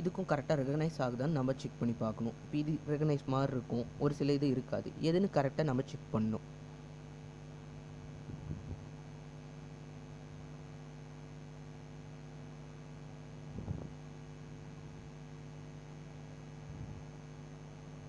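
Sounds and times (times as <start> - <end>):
low electrical mains hum: 0.0 - 18.0.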